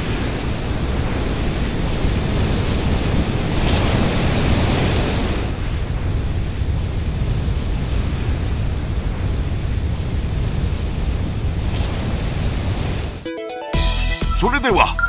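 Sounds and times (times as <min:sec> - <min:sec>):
surging seawater rushing: 0:00.0 - 0:13.2.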